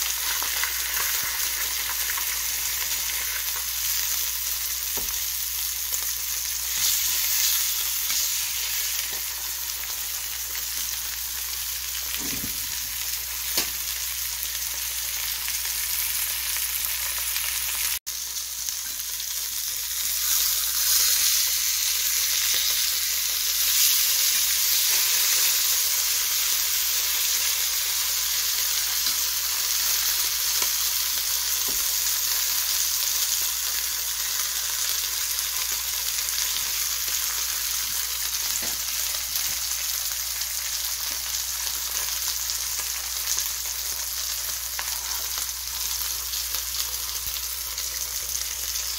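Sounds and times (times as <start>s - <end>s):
fish sizzling in frying pan: 0.0s - 48.9s.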